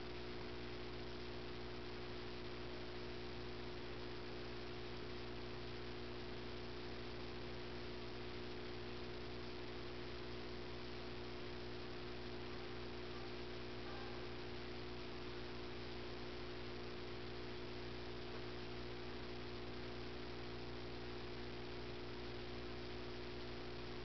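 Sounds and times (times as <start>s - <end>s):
constant hiss: 0.0s - 24.0s
electrical hum: 0.0s - 24.0s.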